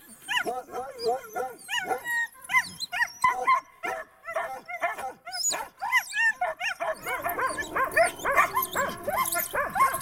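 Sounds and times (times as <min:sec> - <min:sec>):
dogs barking and yelping: 0:00.0 - 0:10.0.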